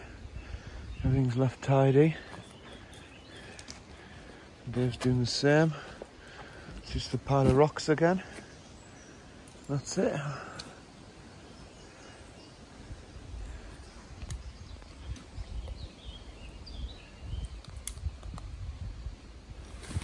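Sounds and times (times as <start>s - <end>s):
faint bird chirping: 0.0s - 18.4s.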